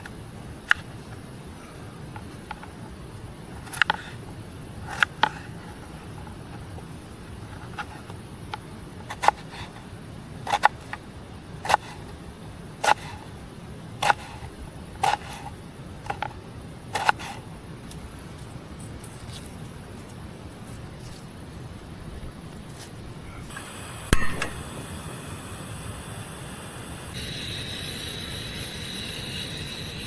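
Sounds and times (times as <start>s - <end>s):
low background noise: 0.0s - 30.0s.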